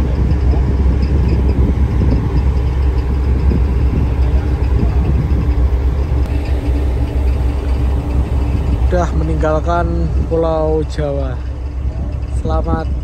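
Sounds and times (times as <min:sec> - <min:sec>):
ship engines rumbling: 0:00.0 - 0:13.0.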